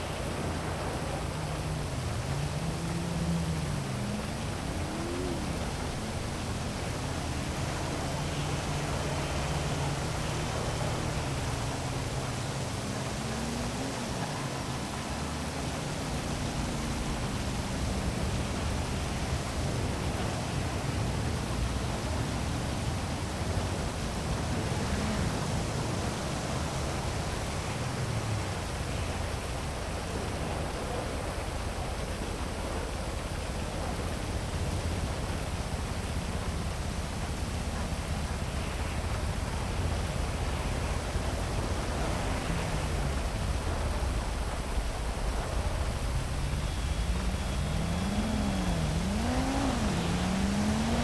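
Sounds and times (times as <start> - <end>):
faint city traffic hum: 0.0 - 51.0
heavy rain: 0.0 - 51.0.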